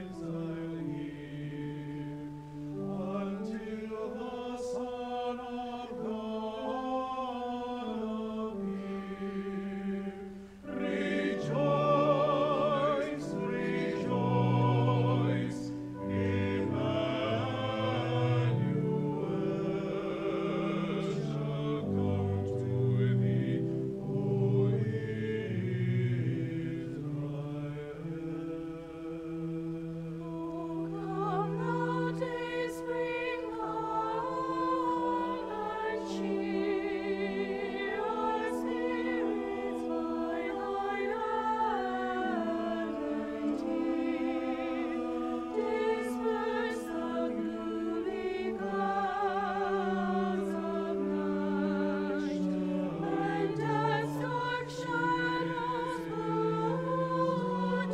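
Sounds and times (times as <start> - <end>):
church choir singing: 0.0 - 57.9
organ chords: 0.0 - 57.9.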